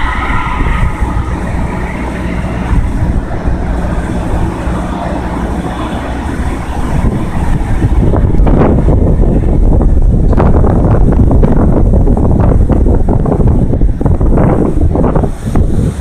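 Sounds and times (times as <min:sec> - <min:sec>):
low rumble: 0:00.0 - 0:16.0
wind buffeting microphone: 0:00.0 - 0:16.0.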